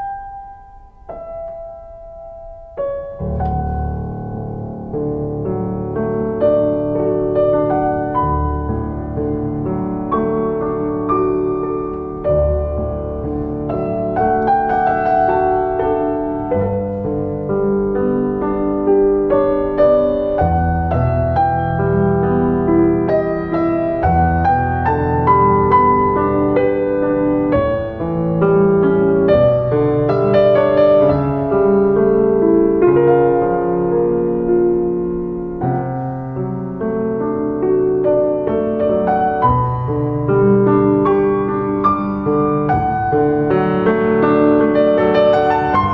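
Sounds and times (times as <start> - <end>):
slow gentle piano: 0.0 - 45.9.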